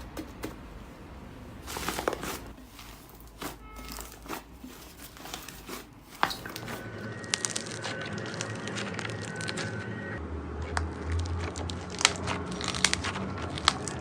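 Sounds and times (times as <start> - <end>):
slime crinkling and crackling: 1.6 - 9.9, 10.6 - 14.0.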